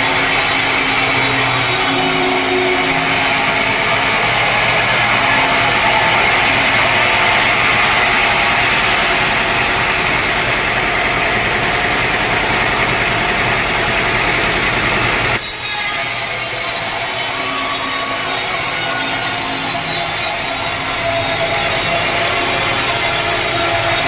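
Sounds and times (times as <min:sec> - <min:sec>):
hissy sawing: 0:00.0 - 0:24.0
sawmill machinery humming: 0:00.0 - 0:24.0.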